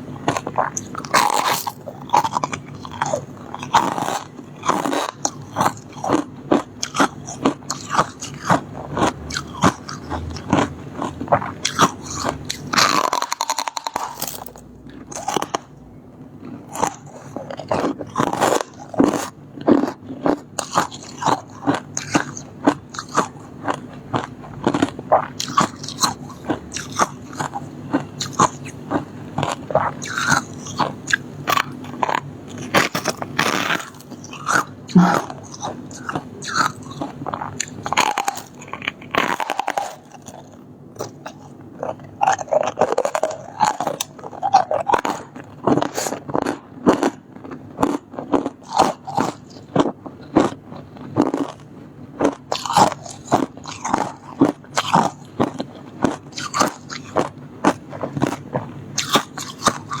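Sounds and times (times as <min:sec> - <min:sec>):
chewing crunchy ice: 0:00.0 - 1:00.0.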